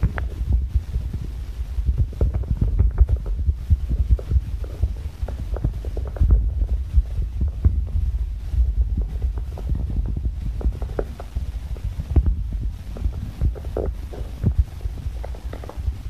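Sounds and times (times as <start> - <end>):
hands pressing dough: 0.0 - 16.0.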